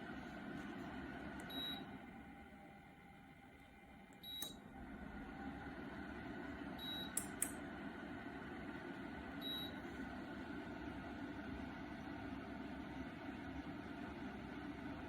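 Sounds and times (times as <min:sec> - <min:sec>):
heater fan whirring: 0:00.0 - 0:15.0.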